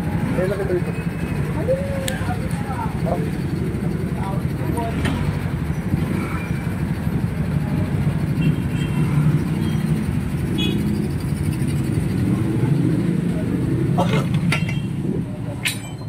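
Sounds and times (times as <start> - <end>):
vehicle engine running: 0.0 - 14.3
road traffic rumble: 0.0 - 16.0.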